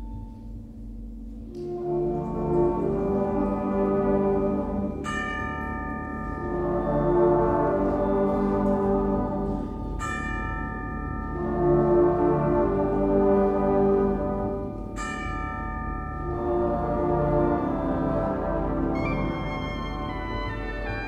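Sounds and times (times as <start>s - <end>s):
wind band sustained chords: 0.0s - 21.0s
tubular bells ringing: 2.0s - 21.0s.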